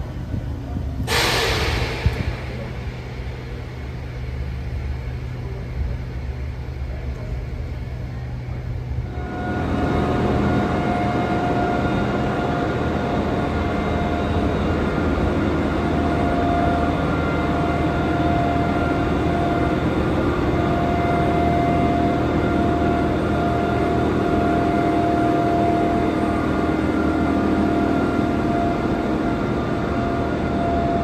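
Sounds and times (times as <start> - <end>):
steady machinery whine: 0.0 - 31.0
train machinery rumbling: 0.0 - 31.0.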